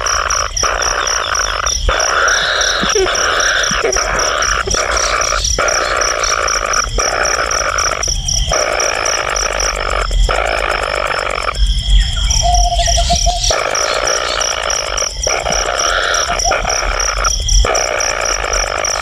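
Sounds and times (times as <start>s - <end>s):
frogs chorus: 0.0s - 19.0s
insect pulsing: 0.0s - 19.0s.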